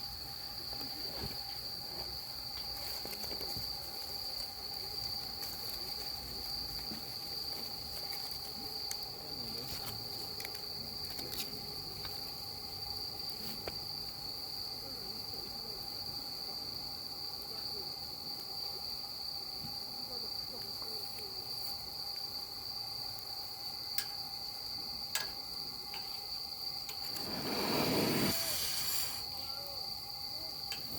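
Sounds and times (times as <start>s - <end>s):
crickets trilling: 0.0s - 30.9s.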